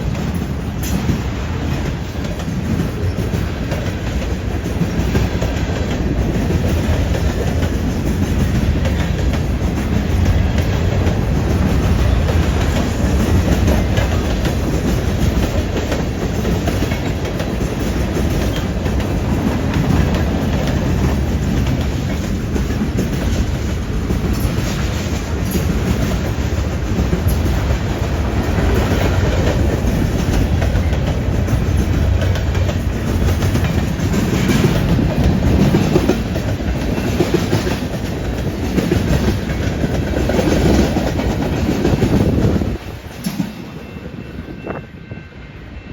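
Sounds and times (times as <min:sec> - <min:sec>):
wheels clacking over rail joints: 0:00.0 - 0:43.7
freight train rolling past: 0:00.0 - 0:45.9.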